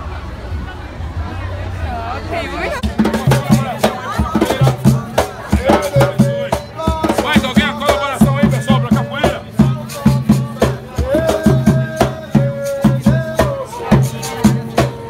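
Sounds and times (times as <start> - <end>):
drum beat: 2.8 - 15.0
shaker-like percussion: 2.8 - 15.0.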